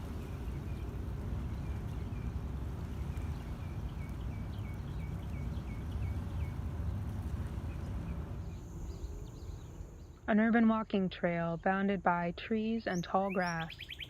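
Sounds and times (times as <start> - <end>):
low outdoor rumble: 0.0 - 14.0
bird chirping: 0.1 - 10.3, 12.6 - 14.0.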